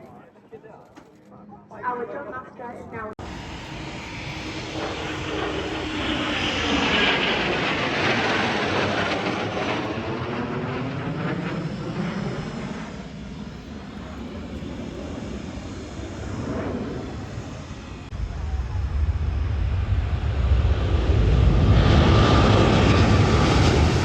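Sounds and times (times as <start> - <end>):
aircraft flying past: 3.2 - 24.0.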